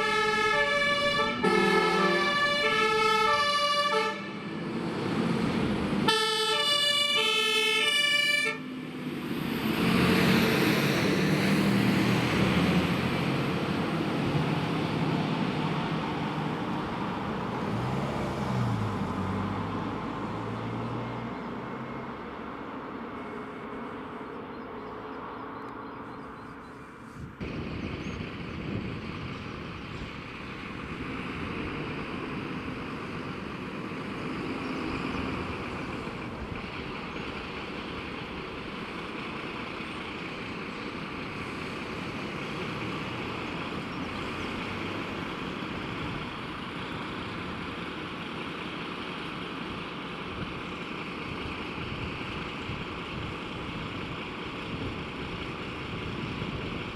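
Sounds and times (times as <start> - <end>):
road noise: 0.0 - 56.9
truck diesel engine rumble: 0.0 - 56.9.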